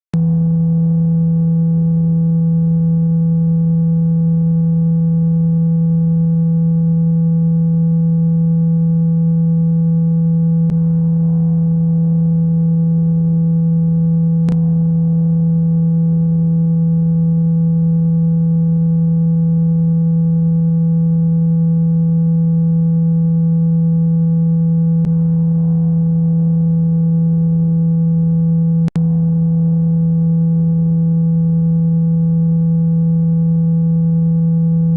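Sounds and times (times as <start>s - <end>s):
low sine tone from phone speaker: 0.2s - 34.9s.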